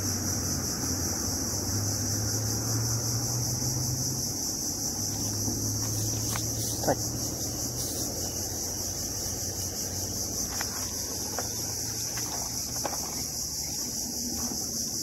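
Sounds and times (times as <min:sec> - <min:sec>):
insect chorus trilling: 0:00.0 - 0:15.0.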